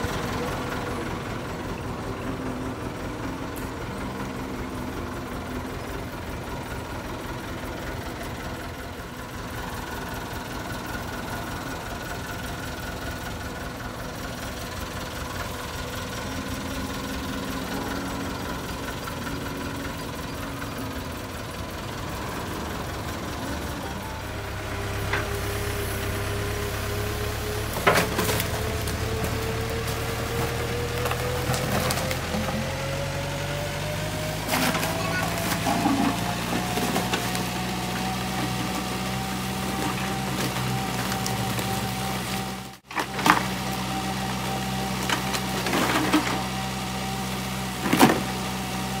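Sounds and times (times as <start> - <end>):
backhoe diesel engine running: 0.0 - 49.0.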